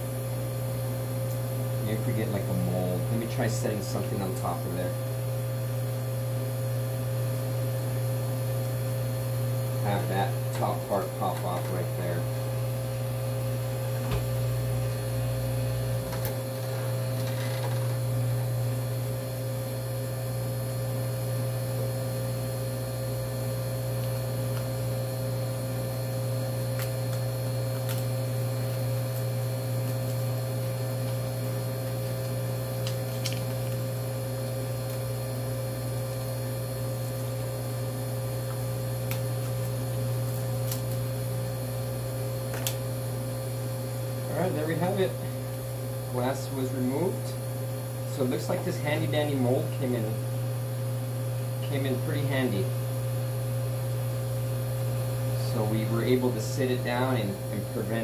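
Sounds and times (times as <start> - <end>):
freezer electrical hum: 0.0 - 58.0.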